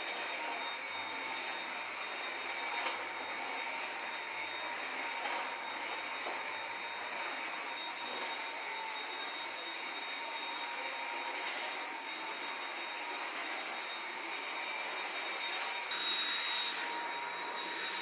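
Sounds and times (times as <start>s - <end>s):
stick vacuum cleaner running: 0.0s - 18.0s.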